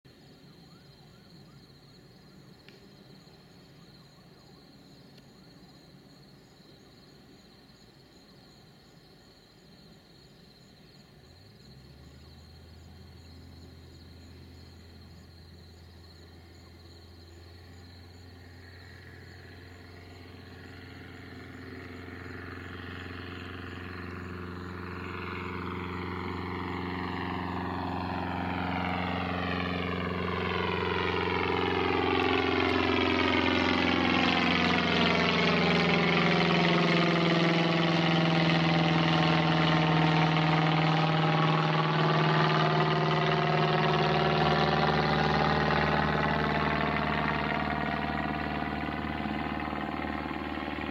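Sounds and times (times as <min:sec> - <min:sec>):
light plane engine droning overhead: 0:00.0 - 0:50.9.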